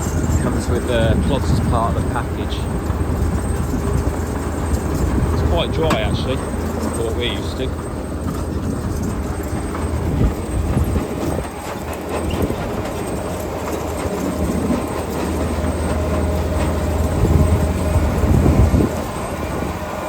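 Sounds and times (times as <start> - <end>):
machine rattling clatter: 0.0 - 19.8
harvester engine drone: 0.0 - 20.0.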